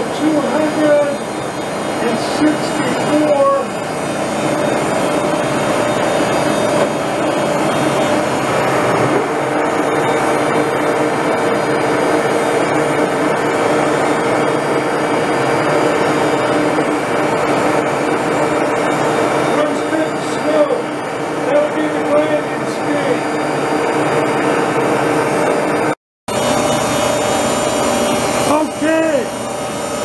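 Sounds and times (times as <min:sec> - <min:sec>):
lathe running: 0:00.0 - 0:30.0.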